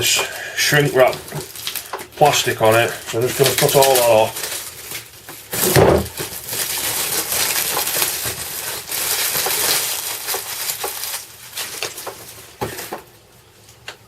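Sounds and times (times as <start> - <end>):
plastic ripping: 0.0 - 13.9
plastic wrap crackling: 0.0 - 14.0.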